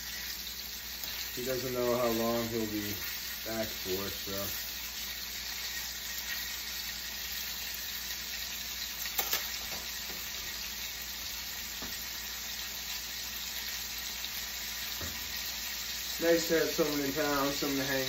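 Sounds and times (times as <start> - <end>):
steaks sizzling in a frying pan: 0.0 - 18.0.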